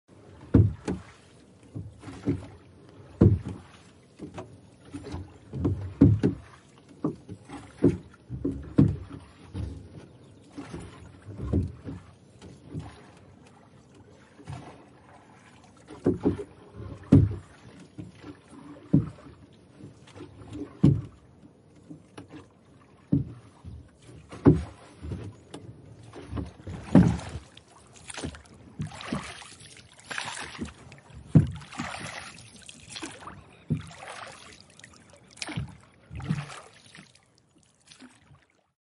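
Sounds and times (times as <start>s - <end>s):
paddles splashing in water: 0.1s - 38.8s.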